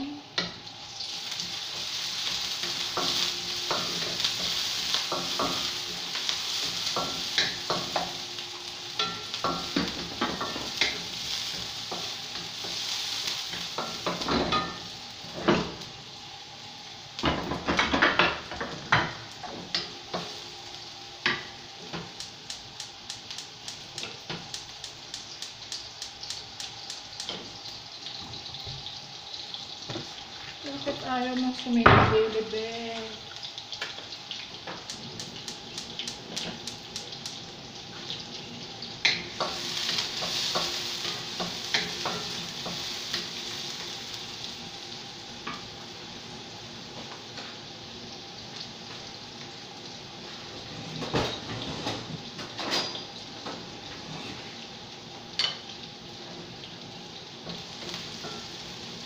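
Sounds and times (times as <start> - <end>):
onion and garlic sizzling in oil: 0.0 - 59.0.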